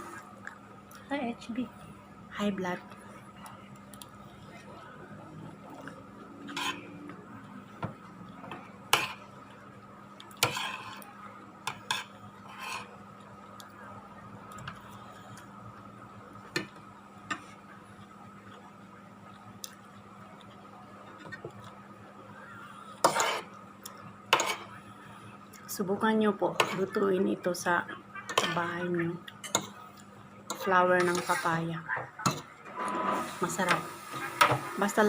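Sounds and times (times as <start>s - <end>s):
faint hum: 0.0s - 35.0s.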